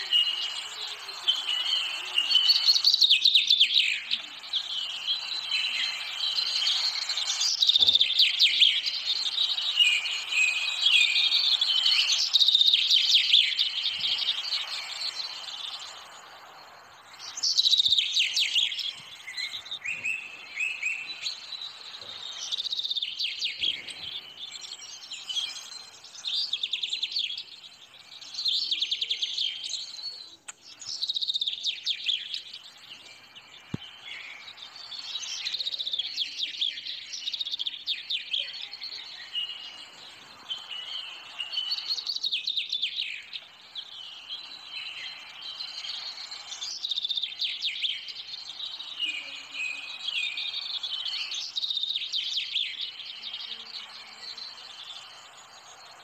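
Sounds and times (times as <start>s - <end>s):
bird chirps and trills: 0.0s - 56.0s.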